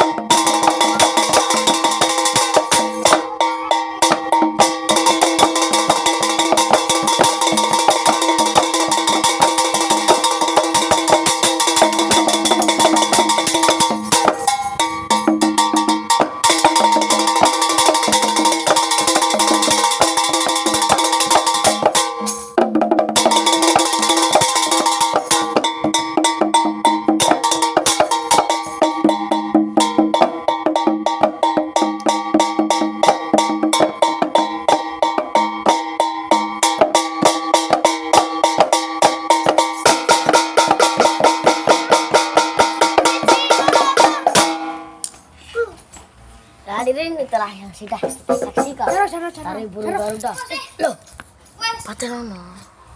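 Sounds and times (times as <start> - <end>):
percussive dance music: 0.0 - 44.6, 47.9 - 50.0.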